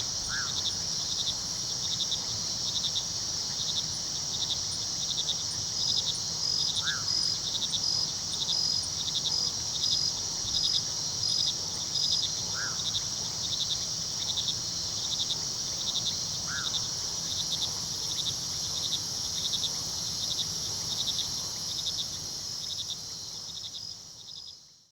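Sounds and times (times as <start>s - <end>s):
crickets and insects trilling: 0.0s - 24.9s.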